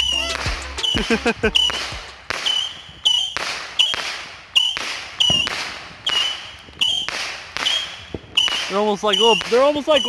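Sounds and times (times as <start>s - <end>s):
whistling firework missiles firing: 0.0s - 10.0s.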